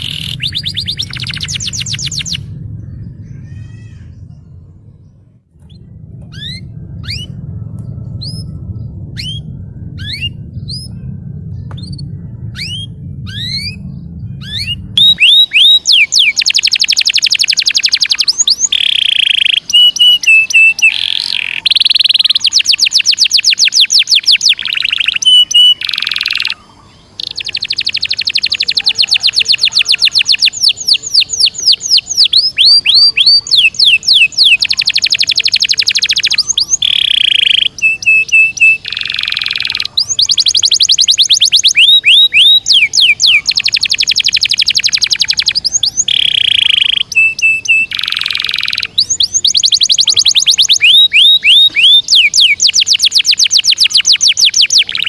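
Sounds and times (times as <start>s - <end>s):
low hum: 0.0s - 54.1s
canary singing: 0.0s - 55.0s.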